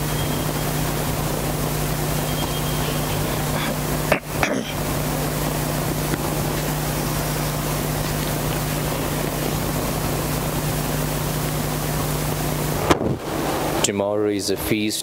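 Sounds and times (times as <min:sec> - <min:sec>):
low hum: 0:00.0 - 0:13.8
steady hiss: 0:00.0 - 0:15.0.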